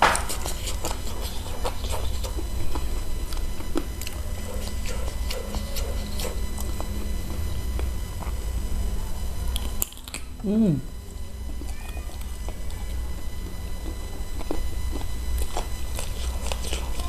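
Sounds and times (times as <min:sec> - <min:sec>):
chewing and lip-smacking: 0:00.0 - 0:08.6, 0:09.4 - 0:10.4, 0:11.1 - 0:17.0
low hum: 0:00.0 - 0:17.0.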